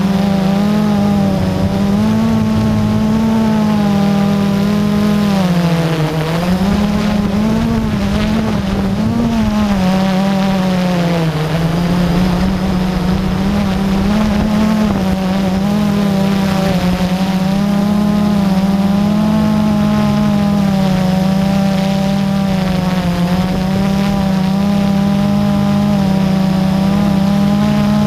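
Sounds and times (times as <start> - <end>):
drone motors and propellers buzzing: 0.0 - 28.0.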